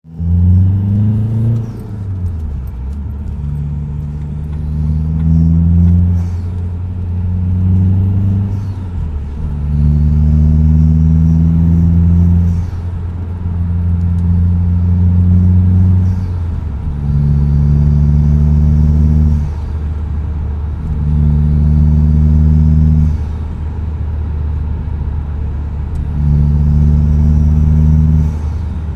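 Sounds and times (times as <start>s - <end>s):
diesel engine revving: 0.0s - 28.9s.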